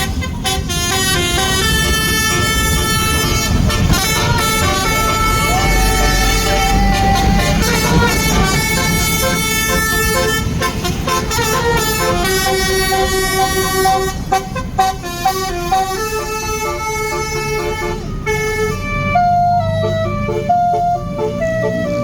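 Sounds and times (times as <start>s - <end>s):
bus engine running: 0.0s - 22.0s
multi-tone air horn tune: 0.0s - 22.0s.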